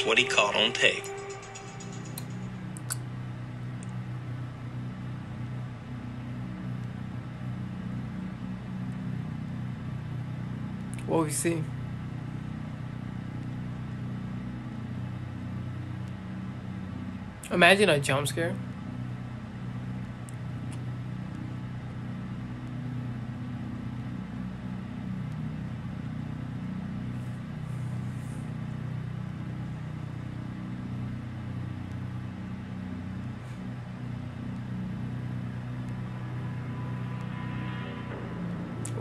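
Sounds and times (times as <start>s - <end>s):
low droning hum: 0.0s - 39.0s.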